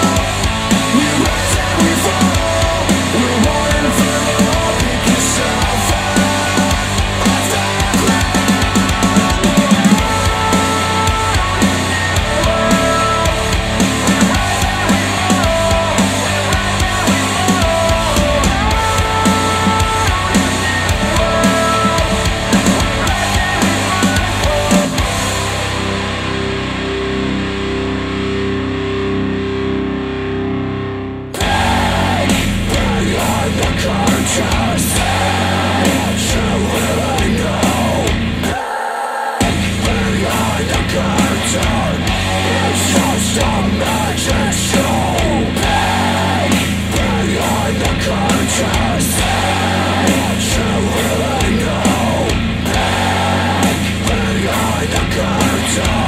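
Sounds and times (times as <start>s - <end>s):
heavy rock music with guitars: 0.0s - 56.0s.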